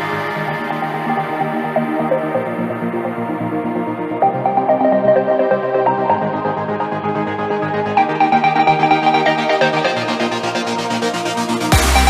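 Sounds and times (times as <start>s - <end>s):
electronic synth music: 0.0s - 12.0s.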